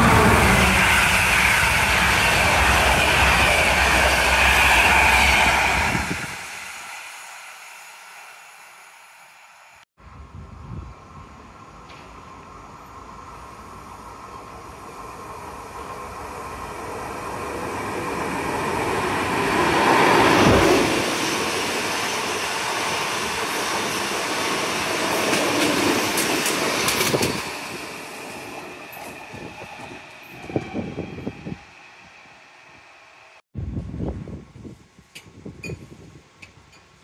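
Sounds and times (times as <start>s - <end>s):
electric train passing: 0.0s - 33.4s.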